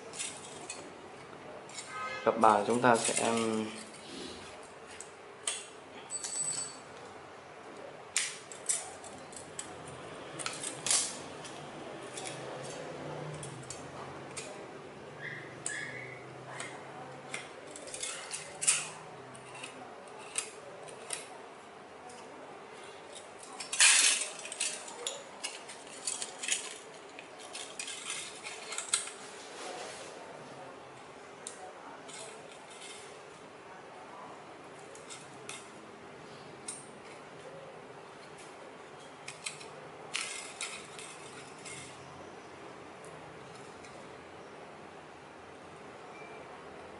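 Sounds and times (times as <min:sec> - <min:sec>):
aluminium strips clicking and crinkling: 0:00.0 - 0:30.2, 0:30.9 - 0:33.6, 0:34.4 - 0:44.2.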